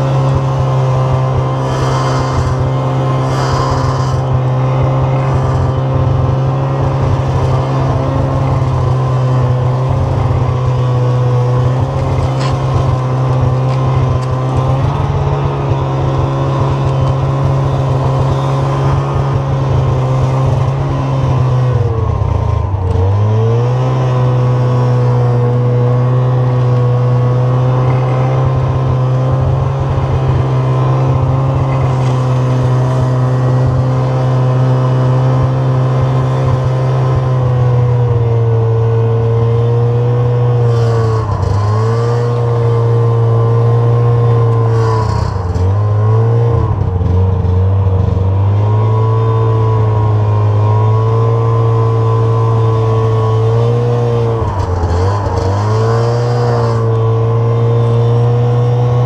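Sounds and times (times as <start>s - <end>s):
snowmobile engine running under load: 0.0s - 59.0s.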